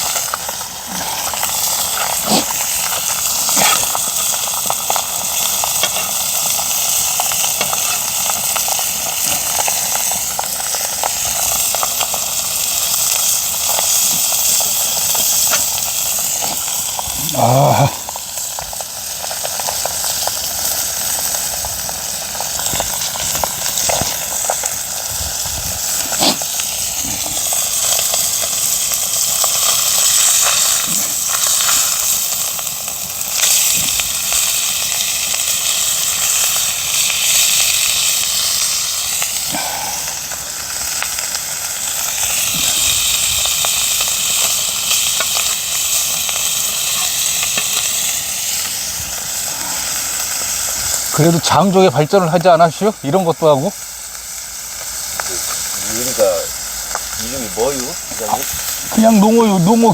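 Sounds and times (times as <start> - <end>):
fish sizzling on a griddle: 0.0 - 59.9.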